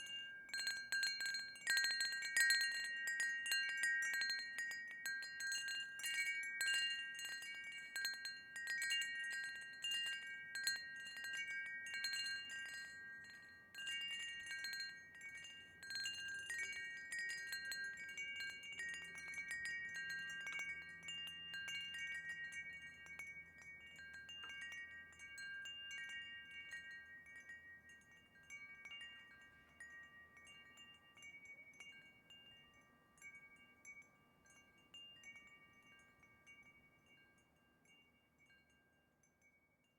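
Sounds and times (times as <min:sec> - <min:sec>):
wind chime ringing: 0:00.0 - 0:39.9.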